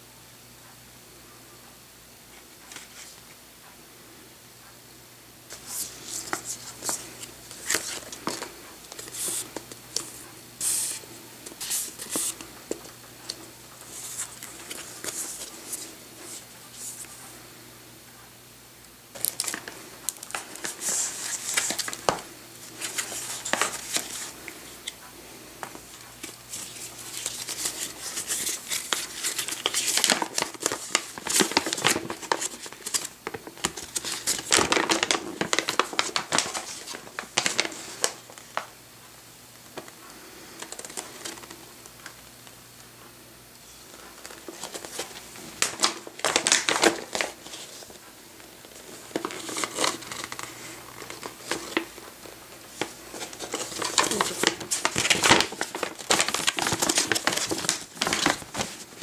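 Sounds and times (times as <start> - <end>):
paper rustling and crinkling: 5.5 - 17.2, 19.2 - 25.0, 25.6 - 38.7, 39.7 - 42.2, 43.6 - 59.0.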